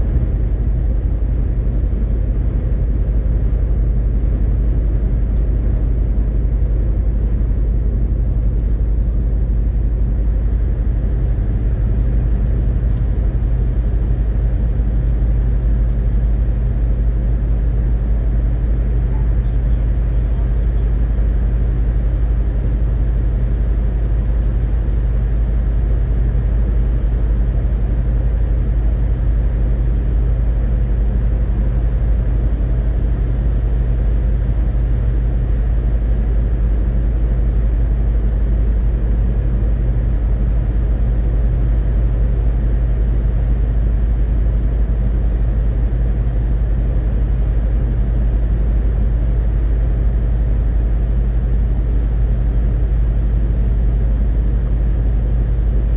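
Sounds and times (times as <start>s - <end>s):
truck diesel engine drone: 0.0s - 55.9s.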